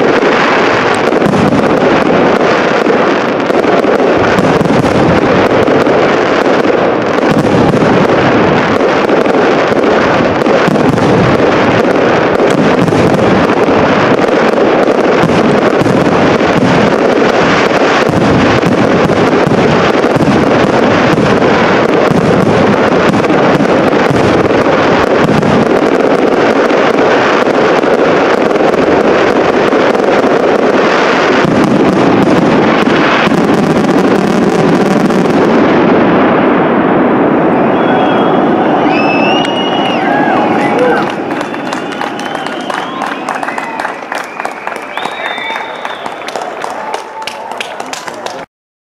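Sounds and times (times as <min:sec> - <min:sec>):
fireworks bursting and crackling: 0:00.0 - 0:48.5.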